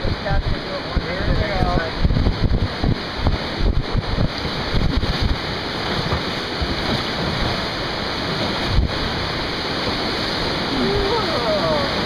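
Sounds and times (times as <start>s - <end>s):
river water rushing: 0.0s - 12.0s
wind buffeting microphone: 0.0s - 12.0s.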